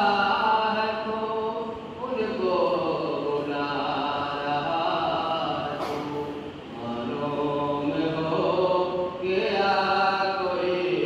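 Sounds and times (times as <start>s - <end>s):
person chanting a mourning lament: 0.0s - 11.0s.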